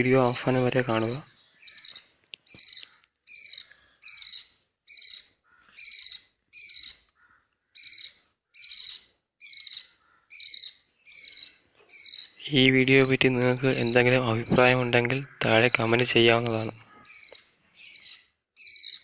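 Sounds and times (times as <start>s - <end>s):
budgie chick begging chirps: 0.9s - 14.8s, 15.6s - 19.0s.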